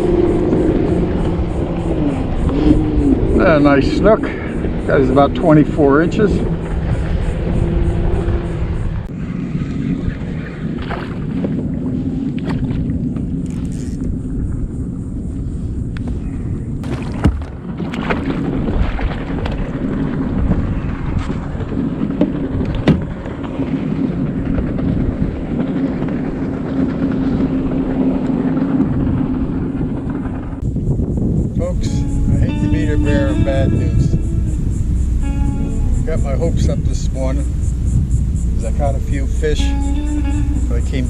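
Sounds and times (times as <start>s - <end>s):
low motor hum: 0.0s - 41.0s
wind rumble on microphone: 0.0s - 41.0s.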